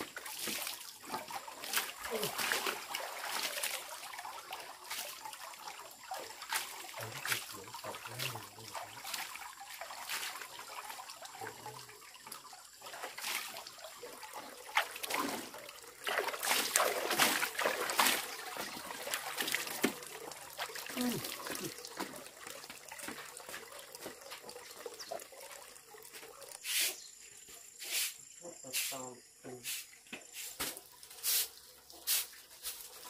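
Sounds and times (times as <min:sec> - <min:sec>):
water trickling and splashing: 0:00.0 - 0:33.0.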